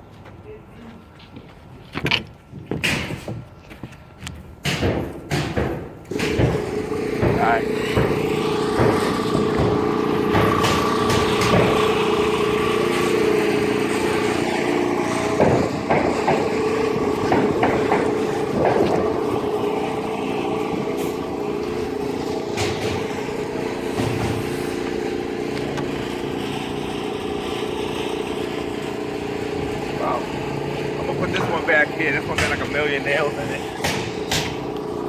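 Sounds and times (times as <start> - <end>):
engine running: 6.0 - 35.0.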